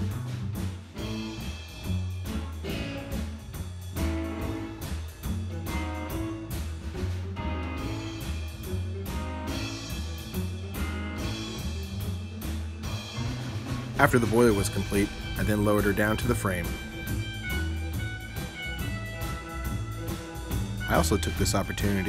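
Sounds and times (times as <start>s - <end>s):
music with drum beat and bass: 0.0s - 22.0s.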